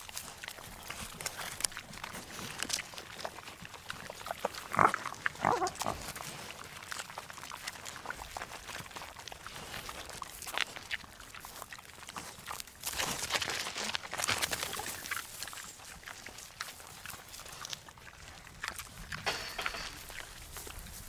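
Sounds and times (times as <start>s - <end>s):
small clicks and rustles: 0.0s - 18.0s.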